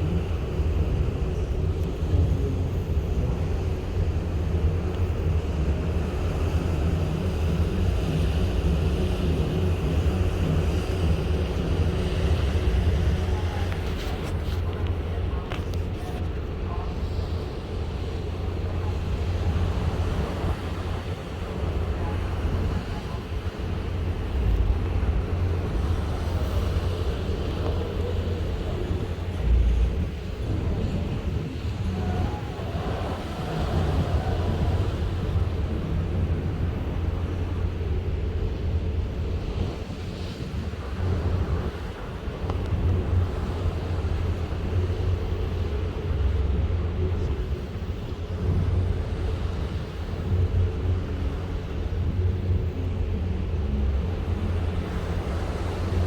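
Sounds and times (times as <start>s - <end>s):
sea noise: 0.0s - 56.0s
ship engine drone: 0.0s - 56.0s
wind noise: 0.0s - 56.0s.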